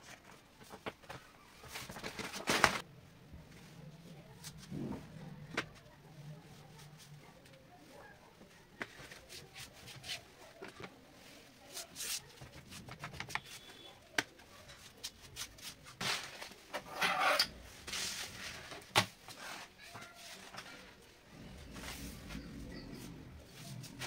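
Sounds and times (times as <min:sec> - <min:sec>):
rustling and scraping: 0:00.0 - 0:13.8, 0:14.5 - 0:24.0.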